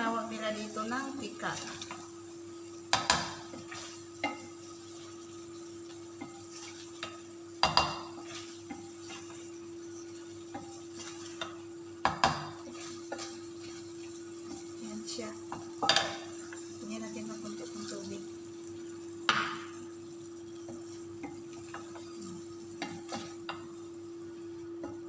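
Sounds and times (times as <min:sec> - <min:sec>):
faint sizzle: 0:00.0 - 0:25.0
steady hum: 0:00.0 - 0:25.0
spatula scraping frying pan: 0:00.8 - 0:19.0, 0:19.7 - 0:25.0.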